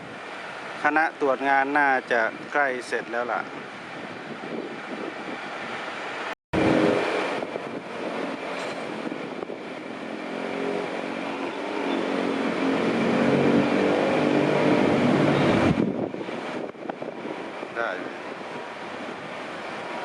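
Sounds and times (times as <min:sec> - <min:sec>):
diesel rail engine running: 0:03.6 - 0:20.0.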